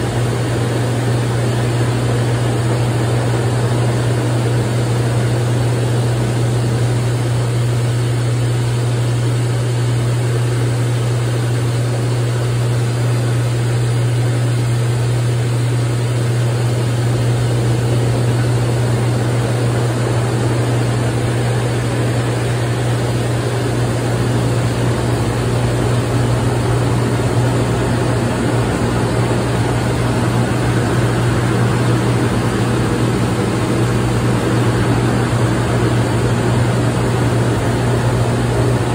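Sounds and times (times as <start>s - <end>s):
pump humming: 0.0s - 38.9s.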